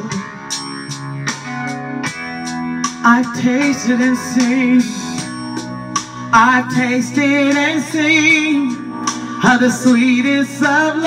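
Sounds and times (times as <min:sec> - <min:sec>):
guitar worship music: 0:00.0 - 0:11.0.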